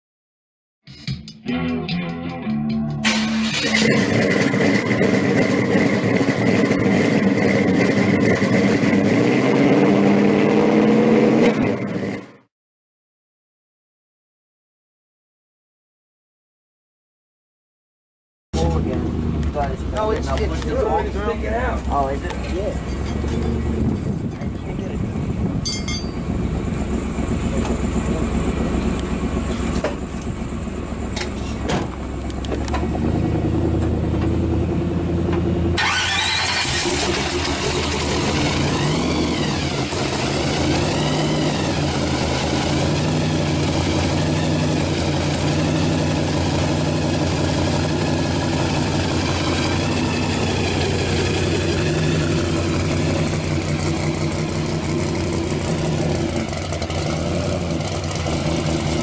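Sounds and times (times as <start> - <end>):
supercharged engine revving: 2.5 - 12.4, 18.6 - 59.0.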